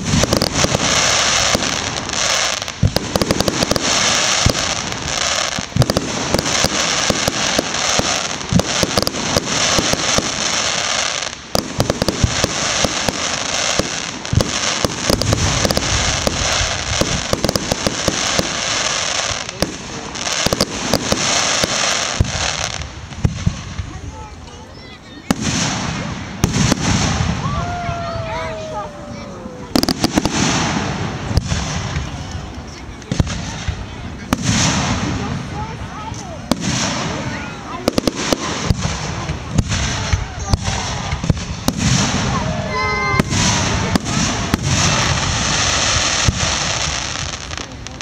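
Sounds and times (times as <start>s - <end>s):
fireworks pops and bangs: 0.0s - 28.8s, 29.6s - 48.0s
fireworks crackling: 0.0s - 48.0s.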